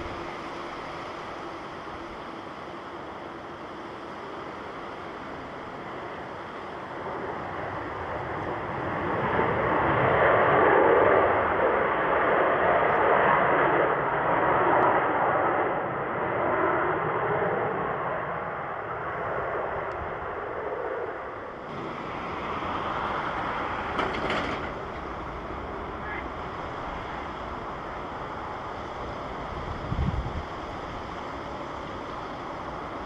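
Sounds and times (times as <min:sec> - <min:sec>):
jet airliner engines passing: 0:00.0 - 0:33.0.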